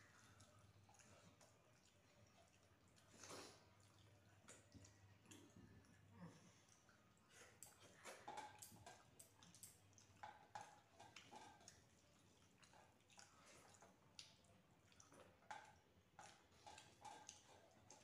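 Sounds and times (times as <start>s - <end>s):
people chewing: 0.0s - 18.0s.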